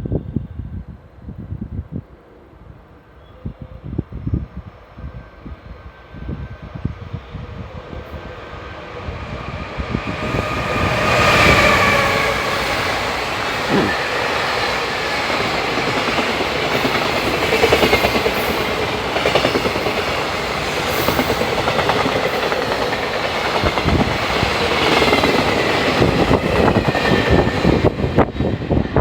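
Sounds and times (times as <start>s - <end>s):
freight train passing: 2.0s - 29.0s.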